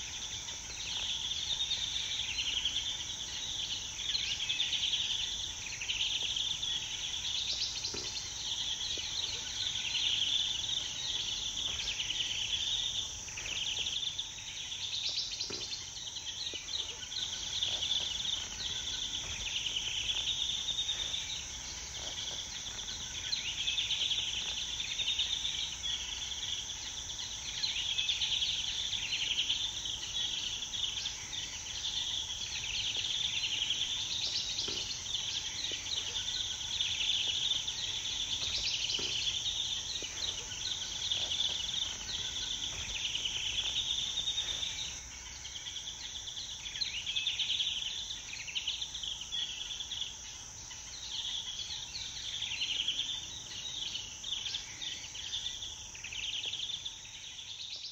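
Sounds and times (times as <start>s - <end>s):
insect chirps and trills: 0.0s - 57.9s
insect drone: 0.0s - 57.9s.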